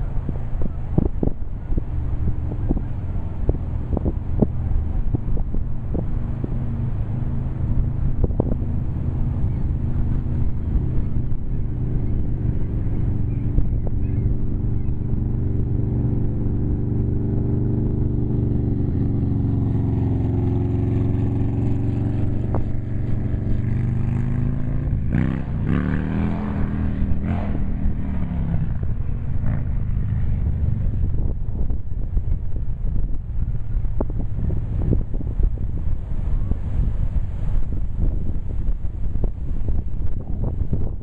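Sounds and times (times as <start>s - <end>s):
vehicle engine droning by: 0.0s - 41.0s
wind buffeting microphone: 0.0s - 41.0s.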